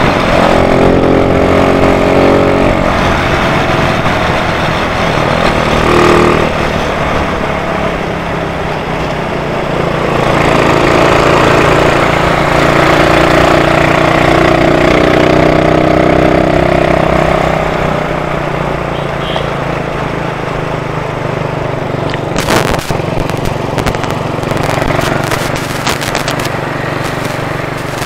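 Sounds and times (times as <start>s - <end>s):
motorcycle engine running: 0.0s - 28.0s
road and wind noise: 0.0s - 28.0s.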